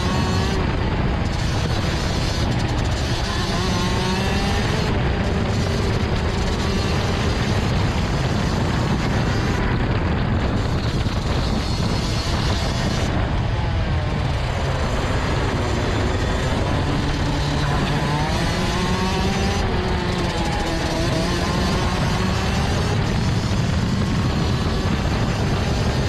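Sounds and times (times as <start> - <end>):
kart engine racing: 0.0 - 26.0
rush of noise: 0.0 - 26.0.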